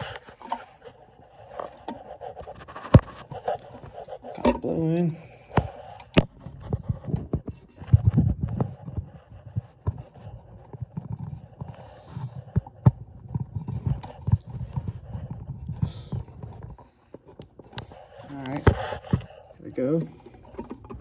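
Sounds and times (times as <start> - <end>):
hands handling fan housing: 0.0 - 21.0.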